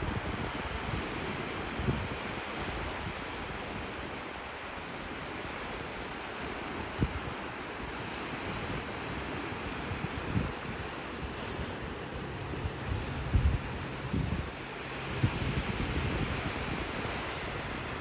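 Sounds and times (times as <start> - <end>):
surf: 0.0 - 18.0
wind: 0.0 - 18.0.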